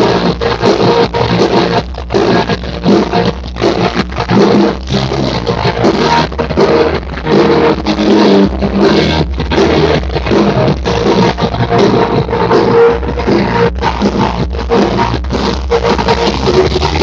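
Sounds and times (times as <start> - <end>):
dance music with steady beat: 0.0 - 17.0.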